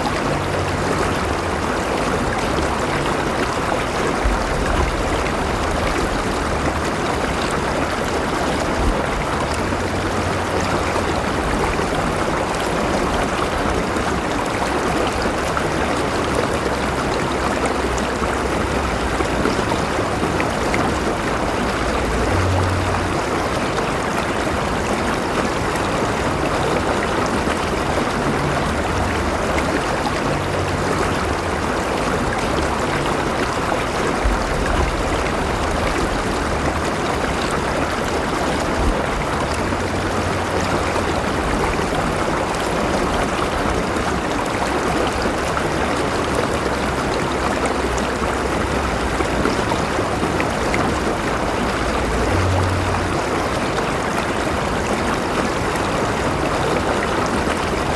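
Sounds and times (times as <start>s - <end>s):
river water flowing over rocks: 0.0s - 57.9s.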